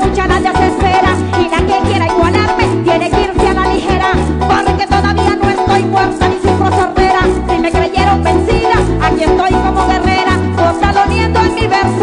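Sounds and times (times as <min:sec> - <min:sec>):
band with bouncing bass: 0:00.0 - 0:12.0
woman singing into microphone: 0:00.0 - 0:12.0.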